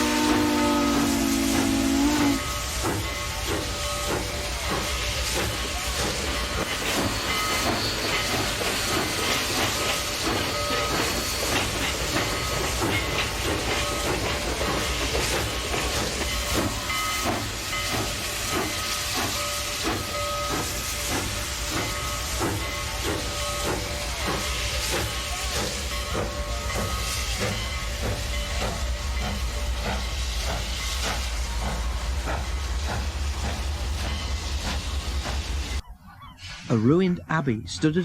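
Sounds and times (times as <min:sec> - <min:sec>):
steam locomotive chuffing: 0:00.0 - 0:37.0
hiss of steam: 0:00.0 - 0:37.1.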